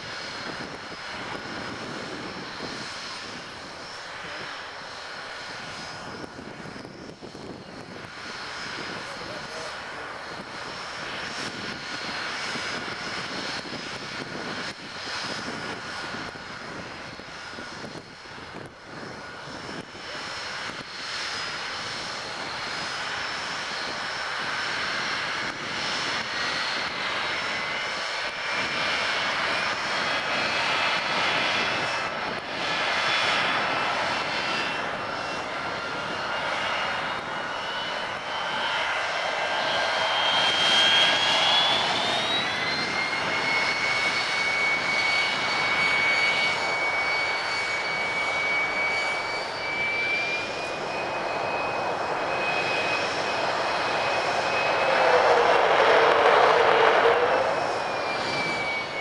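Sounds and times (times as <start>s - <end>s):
jet engines running up: 0.0s - 59.0s.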